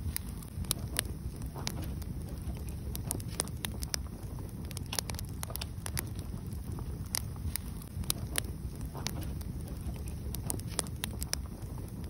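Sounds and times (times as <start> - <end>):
fire low rumble: 0.0 - 12.0
logs crackling and popping: 0.0 - 12.0.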